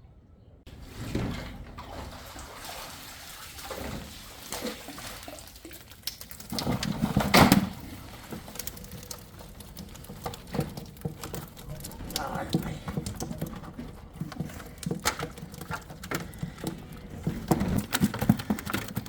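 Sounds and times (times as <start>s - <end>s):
water splashing and sloshing: 0.7s - 19.0s.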